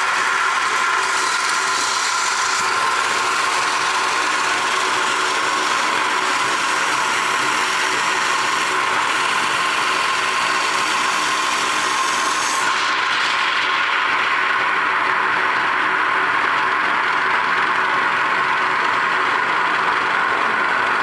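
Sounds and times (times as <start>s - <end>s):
coconut grater whine and grinding: 0.0s - 21.0s.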